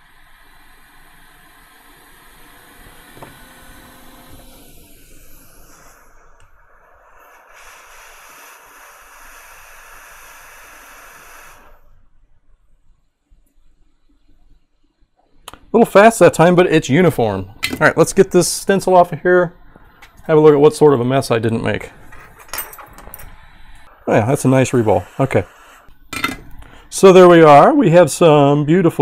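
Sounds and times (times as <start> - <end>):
hot air blower hissing: 0.0 - 12.0, 15.9 - 27.7.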